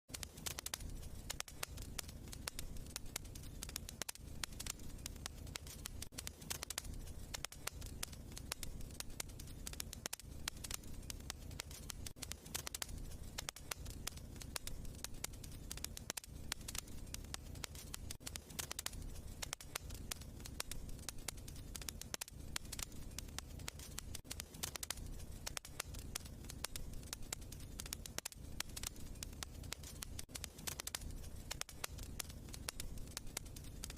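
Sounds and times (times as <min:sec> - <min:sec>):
logs crackling and popping: 0:00.1 - 0:33.9
low rumble of flames: 0:00.1 - 0:33.9.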